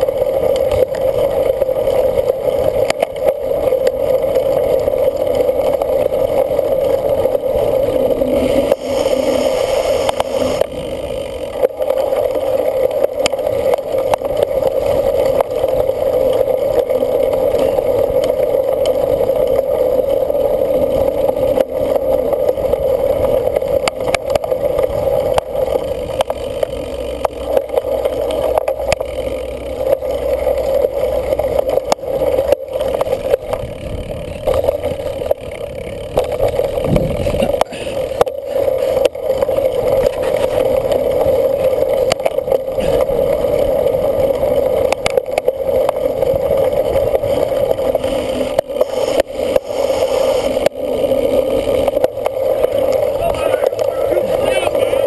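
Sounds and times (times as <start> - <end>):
bike rattling over bumps: 0.0 - 55.0
tyre and wind noise: 0.0 - 55.0.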